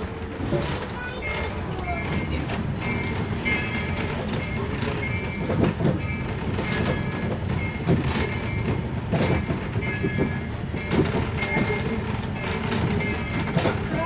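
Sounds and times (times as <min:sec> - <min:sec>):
train carriage rumbling: 0:00.0 - 0:14.0.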